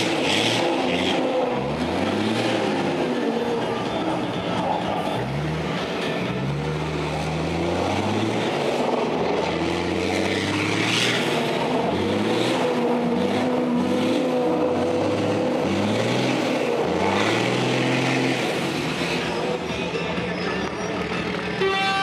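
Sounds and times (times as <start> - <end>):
truck diesel engine revving: 0.0 - 22.0.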